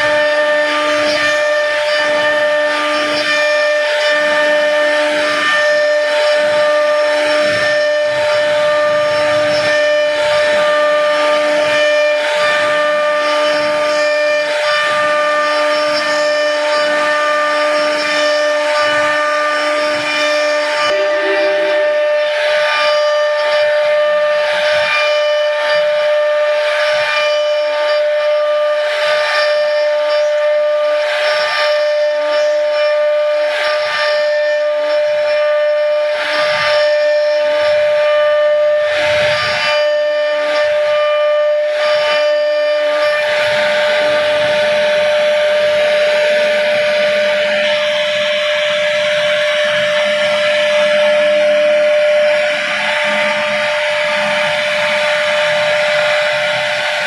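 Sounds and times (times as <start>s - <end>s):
bit rasping through wood: 0.0s - 57.0s
cnc router spindle whining: 0.0s - 57.0s.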